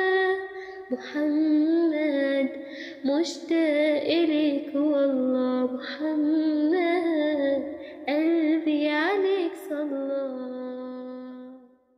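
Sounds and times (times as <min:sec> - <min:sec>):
woman singing: 0:00.0 - 0:11.7.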